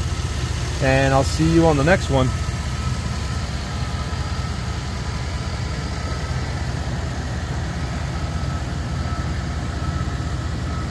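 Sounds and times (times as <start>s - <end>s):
van engine idling: 0.0s - 10.9s.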